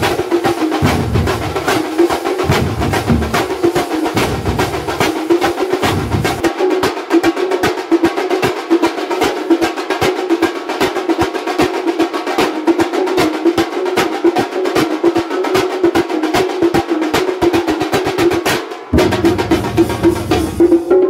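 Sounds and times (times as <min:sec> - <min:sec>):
drum ensemble drumming: 0:00.0 - 0:21.0.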